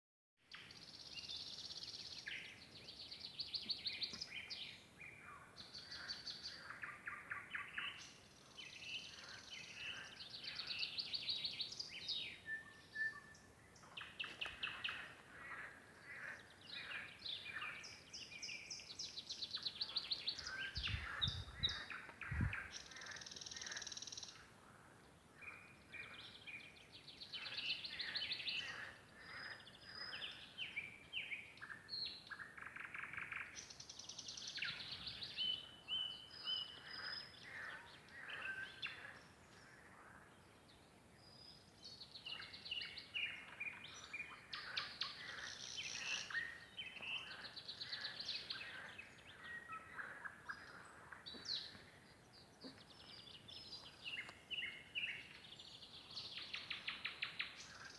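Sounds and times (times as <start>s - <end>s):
nightingale song: 0.4s - 57.9s.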